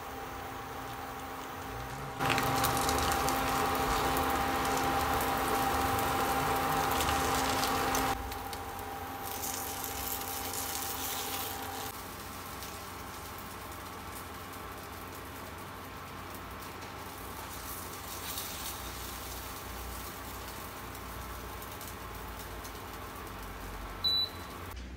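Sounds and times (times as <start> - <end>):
batter sizzling in a pan: 0.0 - 24.8
electric hum: 0.0 - 24.9.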